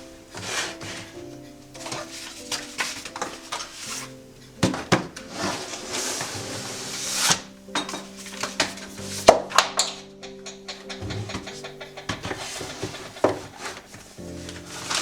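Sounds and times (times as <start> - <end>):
scraping or rustling: 0.0 - 10.2, 10.8 - 15.0
dishes and utensils clattering: 0.0 - 15.0
soft background music: 0.0 - 15.0.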